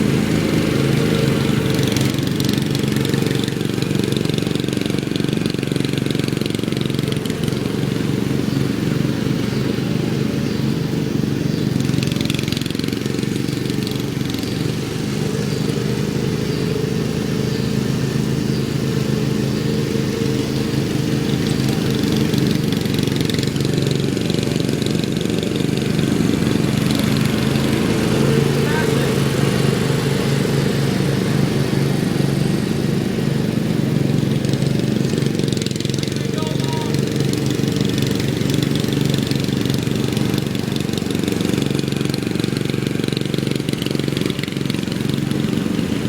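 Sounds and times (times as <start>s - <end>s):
lawn mower engine running: 0.0s - 46.0s.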